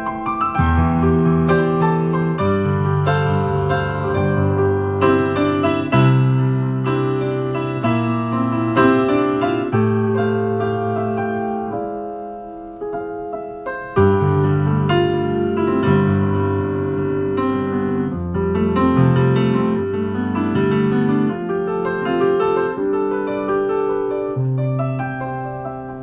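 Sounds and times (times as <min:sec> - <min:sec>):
solo piano slow piece: 0:00.0 - 0:26.0.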